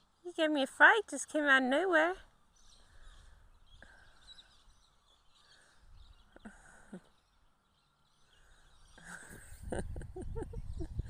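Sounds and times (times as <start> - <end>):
distant birds calling: 1.7 - 11.0.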